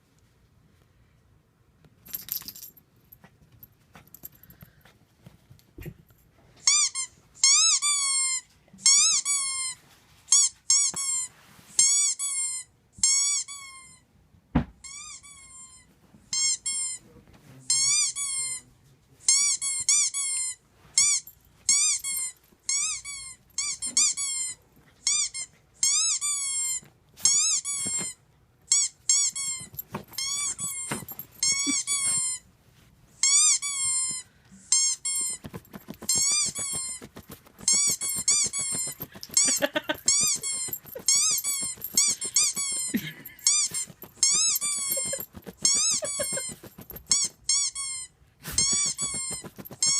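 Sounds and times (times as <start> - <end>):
squeaky toy squeaking: 6.6 - 14.0, 14.8 - 17.0, 17.7 - 18.6, 19.3 - 32.4, 33.2 - 49.9.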